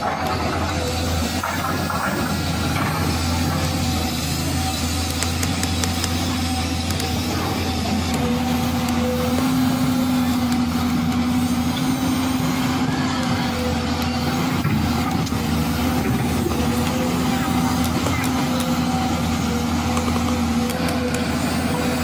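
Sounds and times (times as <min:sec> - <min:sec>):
truck engine drone: 0:00.0 - 0:22.0.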